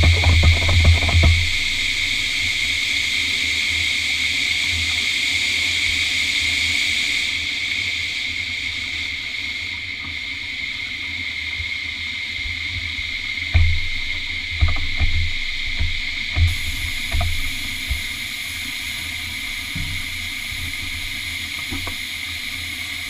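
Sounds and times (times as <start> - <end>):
steam locomotive hissing: 0.0 - 10.2, 13.0 - 23.0.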